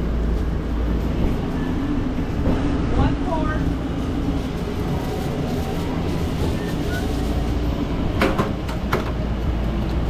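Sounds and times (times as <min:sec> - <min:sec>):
low machinery rumble: 0:00.0 - 0:10.0.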